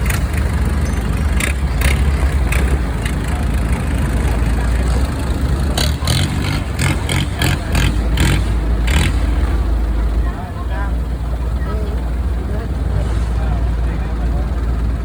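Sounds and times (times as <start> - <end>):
outboard engines rumbling: 0.0 - 15.0.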